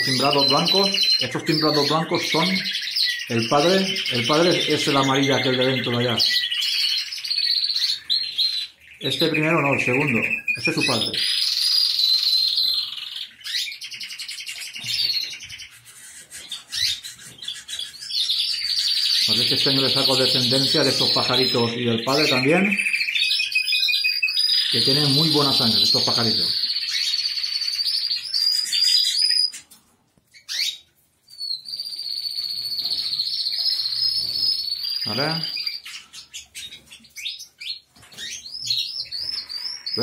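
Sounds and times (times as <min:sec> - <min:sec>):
canaries and finches singing: 0:00.0 - 0:40.0.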